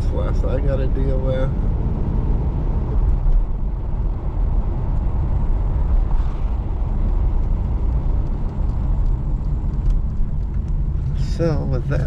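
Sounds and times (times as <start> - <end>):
car engine rumble from inside: 0.0 - 12.0.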